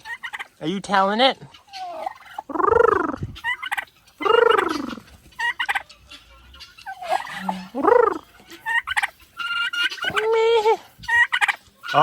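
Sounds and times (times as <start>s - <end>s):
turkey hen calling: 0.0s - 12.0s.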